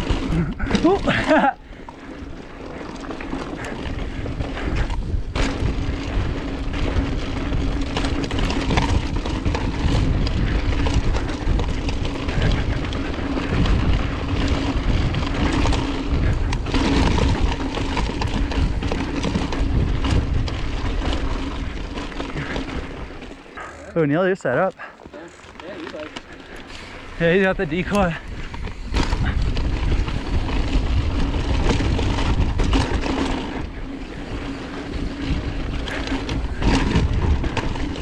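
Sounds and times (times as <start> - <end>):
wind buffeting microphone: 0.0 - 23.4, 26.0 - 38.0
bike knocking and rattling: 0.0 - 38.0
tyres rolling over rocky dirt: 0.0 - 38.0.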